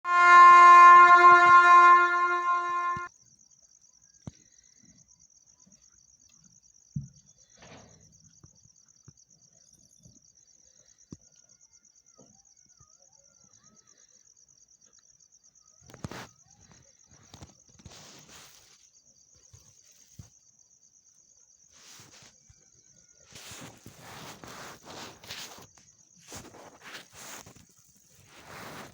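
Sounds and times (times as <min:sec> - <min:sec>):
faint cricket trill: 0:00.1 - 0:28.9.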